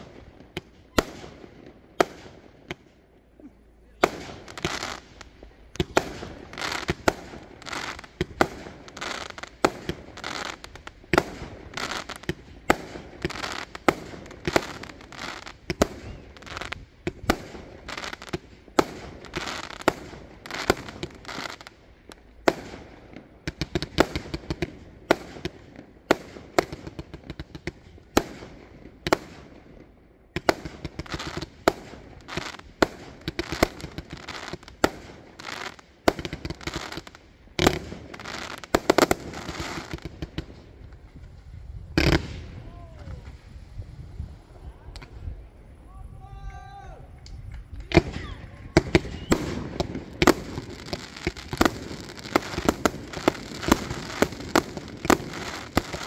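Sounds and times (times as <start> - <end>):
fireworks crackling: 0.0 - 56.0.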